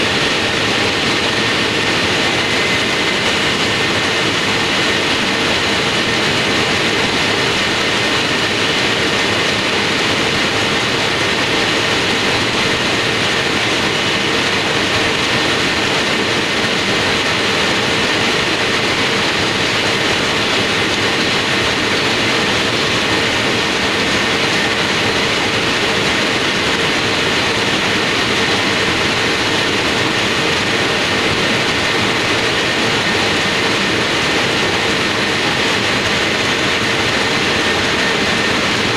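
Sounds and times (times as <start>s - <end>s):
factory machine running: 0.0s - 38.9s.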